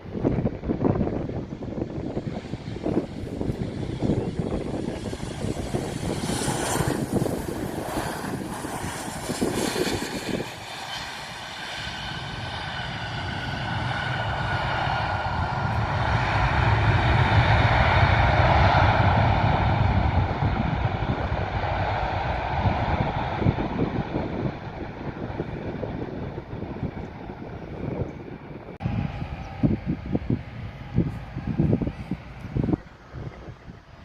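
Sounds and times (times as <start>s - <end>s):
airplane engines passing: 0.0s - 34.0s
wind buffeting microphone: 0.0s - 34.0s.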